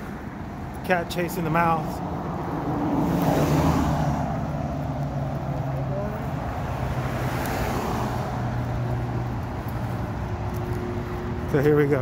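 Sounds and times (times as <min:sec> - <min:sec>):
car engines driving away: 0:00.0 - 0:12.0
road noise: 0:00.0 - 0:12.0.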